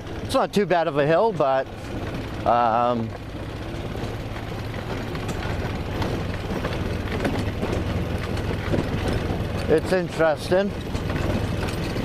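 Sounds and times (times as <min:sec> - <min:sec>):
atv engine under load: 0:00.0 - 0:12.0
knocks and rattles: 0:00.0 - 0:12.0.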